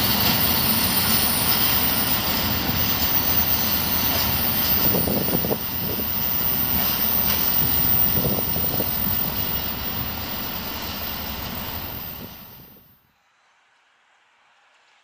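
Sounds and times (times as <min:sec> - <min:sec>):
freight train rumbling on rails: 0:00.0 - 0:12.9.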